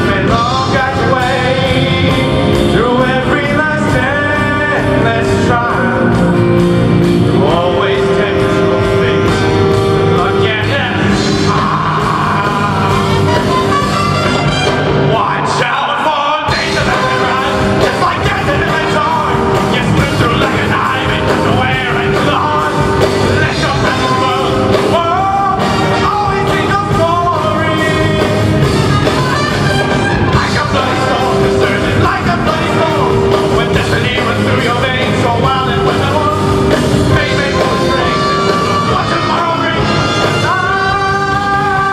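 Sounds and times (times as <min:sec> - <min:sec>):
jazz fusion band playing: 0:00.0 - 0:41.9.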